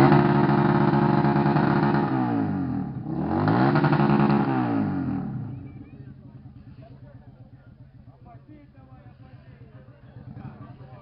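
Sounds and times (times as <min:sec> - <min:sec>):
motorcycle revving: 0:00.0 - 0:11.0.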